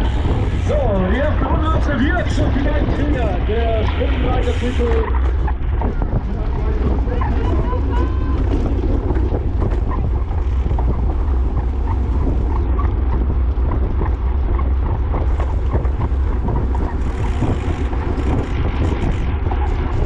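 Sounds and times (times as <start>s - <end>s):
small scattered clicks: 0.0s - 20.0s
wind buffeting microphone: 0.0s - 20.0s.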